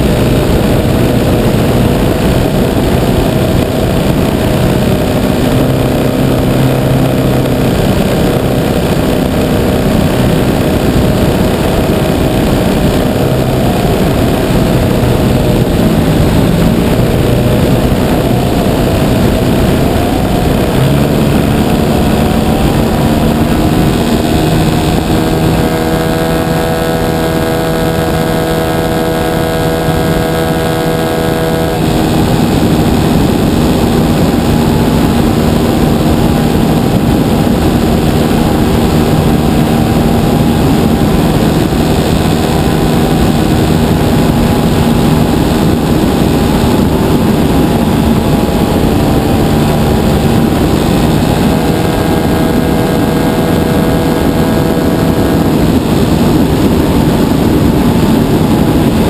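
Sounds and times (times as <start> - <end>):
model plane engine and propeller: 0.0 - 59.0
wind rush over microphone: 0.0 - 59.0.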